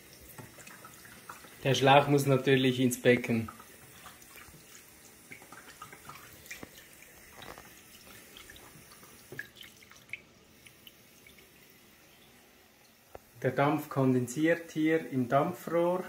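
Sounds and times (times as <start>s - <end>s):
water drips and splashes: 0.0s - 13.4s
water running into a steel sink: 0.0s - 13.4s.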